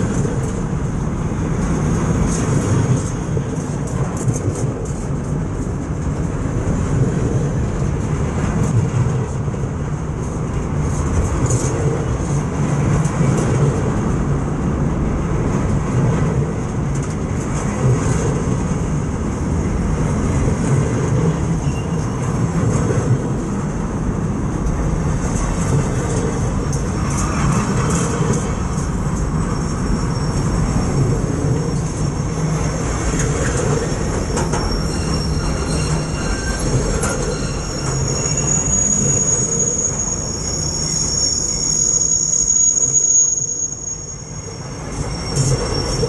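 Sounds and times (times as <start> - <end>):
steel wheels rumbling on rail: 0.0 - 46.0.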